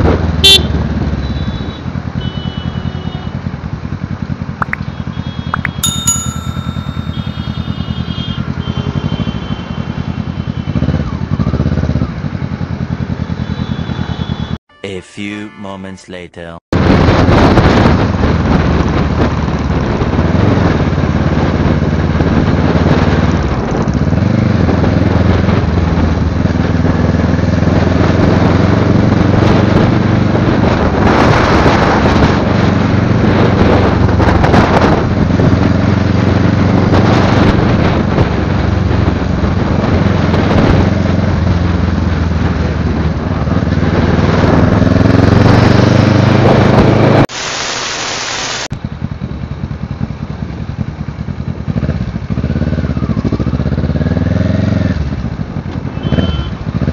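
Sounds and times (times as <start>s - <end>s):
motorcycle engine and exhaust: 0.0s - 14.6s, 16.8s - 47.3s, 48.8s - 56.9s
wind and road noise: 0.0s - 14.6s, 16.8s - 56.9s.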